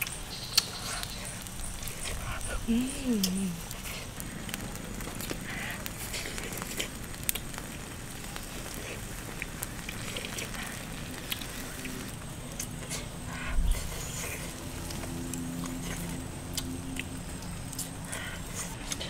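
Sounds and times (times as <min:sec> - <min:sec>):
charcoal fire crackling: 0:00.0 - 0:19.0.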